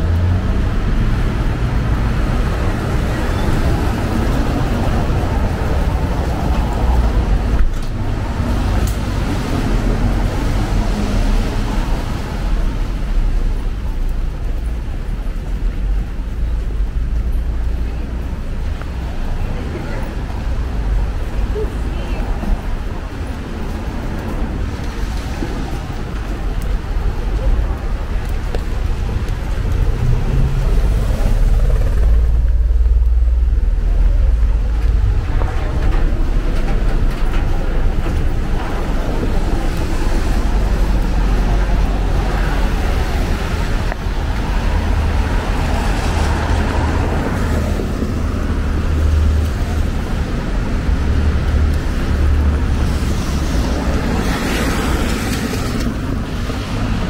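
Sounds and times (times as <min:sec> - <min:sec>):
cars passing on wet pavement: 0:00.0 - 0:57.0
low traffic rumble: 0:00.0 - 0:57.0.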